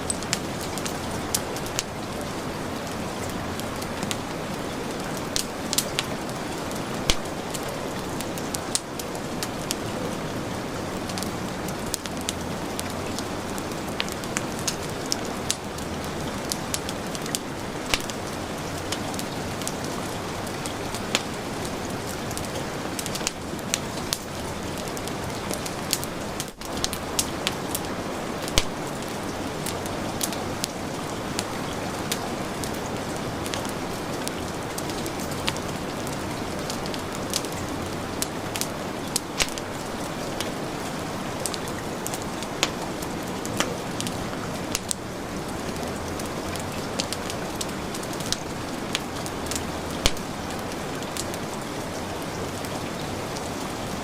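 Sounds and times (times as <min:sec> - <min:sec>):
heavy rain: 0:00.0 - 0:54.0
wood fire crackling: 0:00.0 - 0:54.0.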